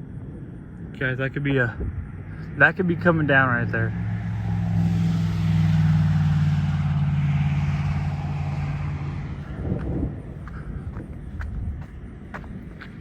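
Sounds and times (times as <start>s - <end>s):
vehicle engine and tyres: 0.0s - 13.0s.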